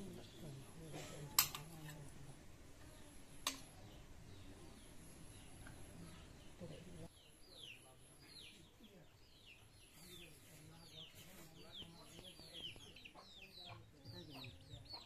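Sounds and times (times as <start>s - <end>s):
faint bird chirping: 0.0s - 15.0s
low background noise: 0.0s - 15.0s.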